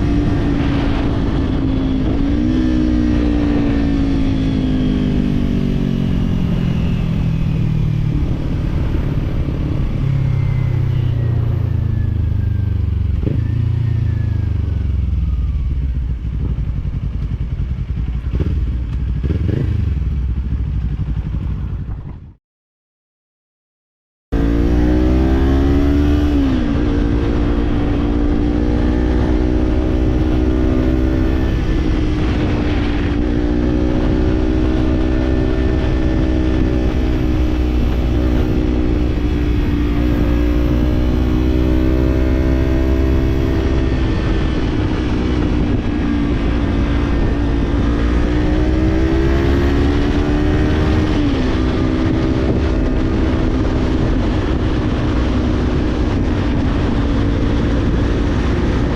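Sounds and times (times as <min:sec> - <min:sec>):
motorcycle engine running: 0:00.0 - 0:22.4, 0:24.4 - 0:58.9.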